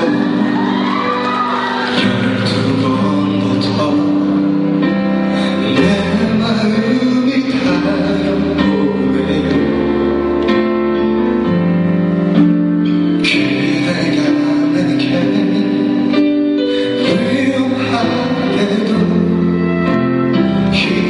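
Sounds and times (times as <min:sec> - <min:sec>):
man singing into microphone: 0:00.0 - 0:10.5, 0:13.1 - 0:21.0
band backing music: 0:00.0 - 0:21.0.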